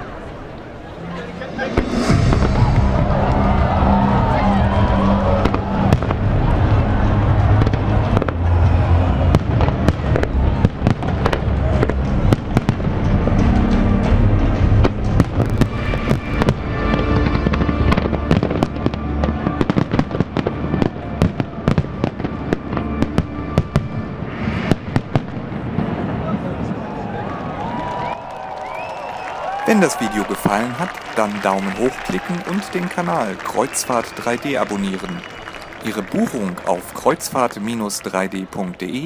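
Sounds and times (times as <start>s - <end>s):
music: 1.0s - 25.9s, 29.8s - 37.8s
fireworks bangs and crackling: 1.5s - 28.2s, 28.8s - 39.0s.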